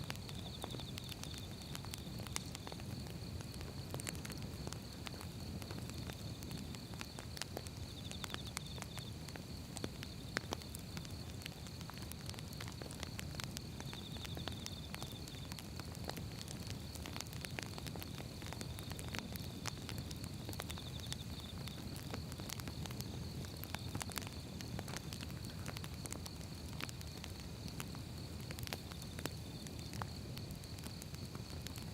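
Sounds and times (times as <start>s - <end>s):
fire crackling and popping: 0.0s - 31.9s
low rumble of fire: 0.0s - 31.9s.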